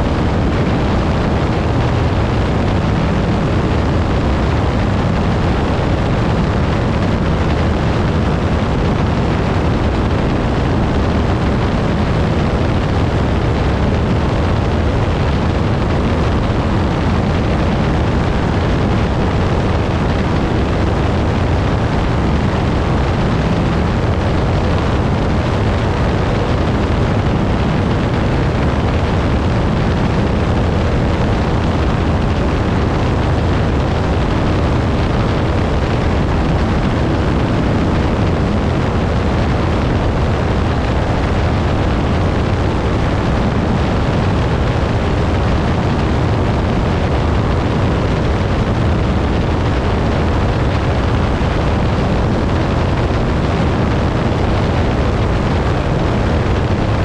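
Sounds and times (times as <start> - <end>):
rushing air: 0.0 - 57.0.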